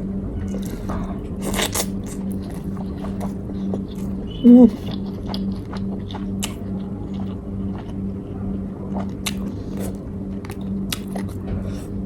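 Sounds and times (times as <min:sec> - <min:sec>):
steady low hum: 0:00.0 - 0:12.0
person chewing food: 0:00.6 - 0:08.3, 0:08.9 - 0:12.0.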